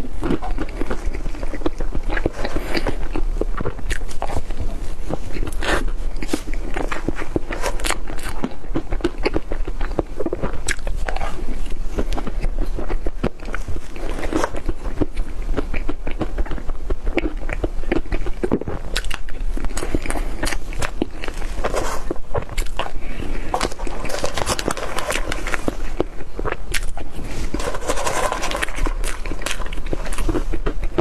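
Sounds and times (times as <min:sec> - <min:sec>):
person chewing cake: 0:00.0 - 0:31.0.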